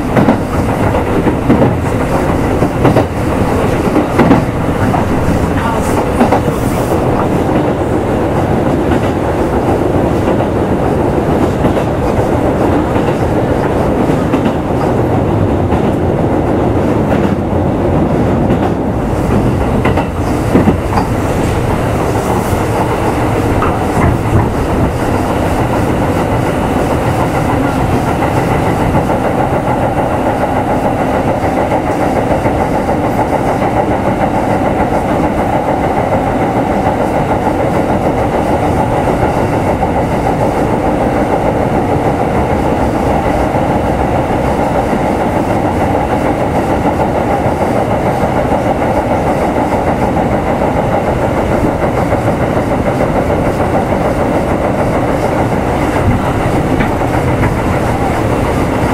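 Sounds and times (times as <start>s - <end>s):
clickety-clack over rail joints: 0.0s - 58.9s
train wheels rumbling on rail: 0.0s - 58.9s.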